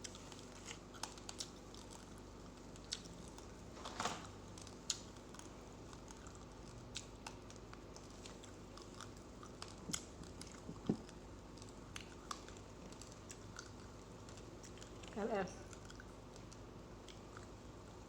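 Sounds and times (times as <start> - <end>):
chewing crunchy rice: 0.0 - 18.0.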